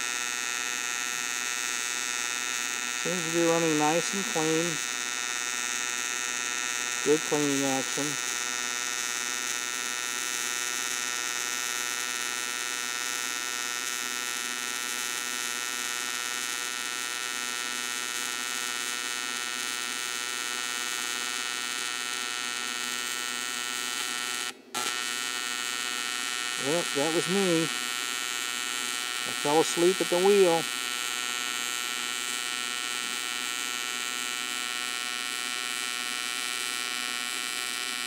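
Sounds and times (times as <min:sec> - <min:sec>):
welding arc buzzing: 0:00.0 - 0:38.0.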